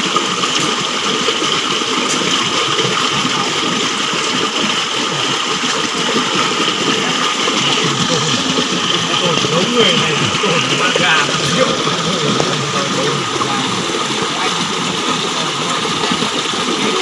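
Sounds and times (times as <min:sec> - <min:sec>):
stream water flowing over rocks: 0:00.0 - 0:17.0.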